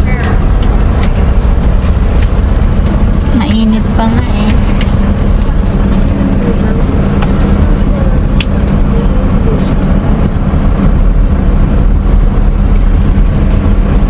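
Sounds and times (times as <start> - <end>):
car engine and cabin hum: 0.0 - 14.0.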